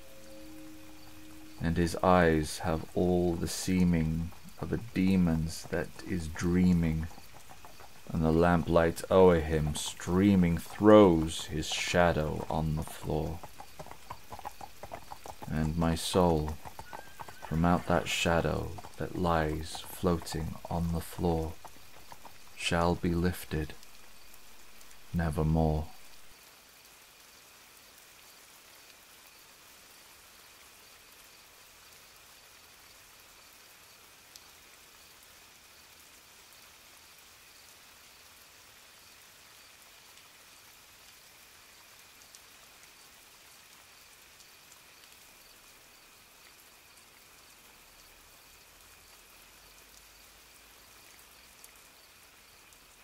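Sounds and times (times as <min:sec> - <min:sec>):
faint steady rain: 0:00.0 - 0:53.0.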